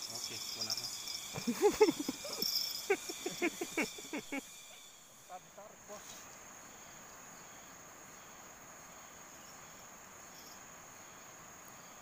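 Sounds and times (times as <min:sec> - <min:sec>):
crickets chirping: 0:00.0 - 0:12.0
faint outdoor hiss: 0:00.0 - 0:12.0.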